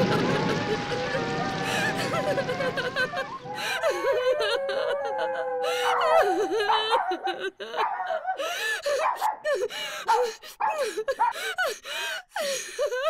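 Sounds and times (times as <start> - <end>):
woman sobbing and wailing: 0.0 - 13.0.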